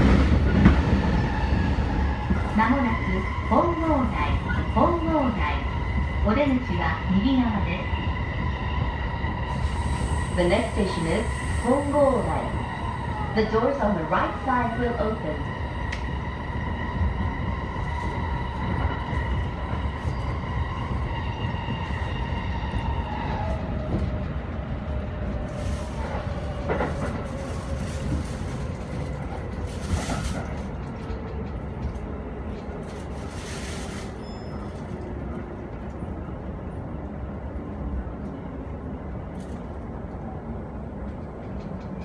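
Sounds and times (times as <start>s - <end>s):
wheels rumbling on rail: 0.0s - 42.0s.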